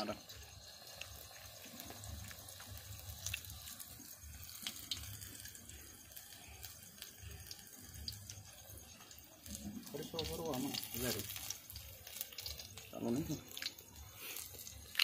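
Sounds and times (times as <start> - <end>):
fritters deep-frying in oil: 0.0 - 15.0.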